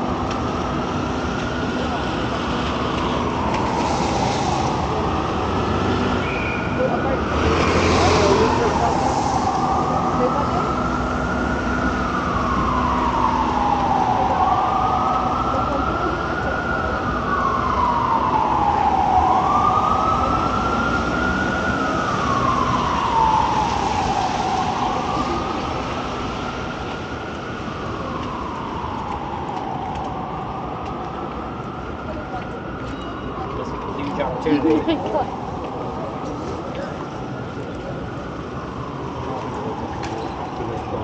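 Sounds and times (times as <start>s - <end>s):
emergency vehicle siren wailing: 0.0s - 41.0s
street noise: 0.0s - 41.0s.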